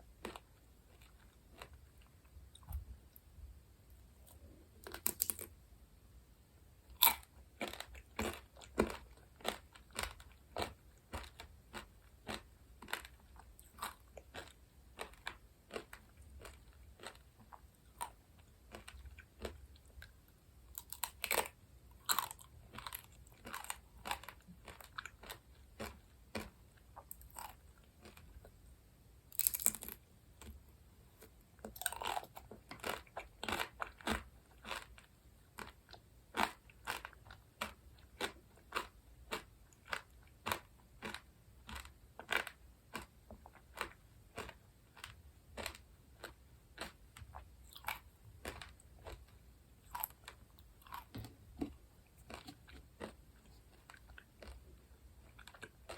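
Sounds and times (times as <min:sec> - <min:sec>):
crunchy chewing: 0:00.2 - 0:02.8, 0:06.9 - 0:28.6, 0:29.3 - 0:30.6, 0:31.2 - 0:55.9.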